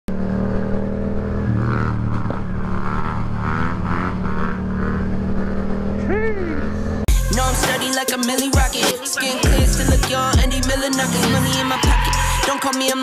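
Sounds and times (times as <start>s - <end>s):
motorcycle engine running and revving: 0.0s - 7.1s, 9.4s - 13.0s.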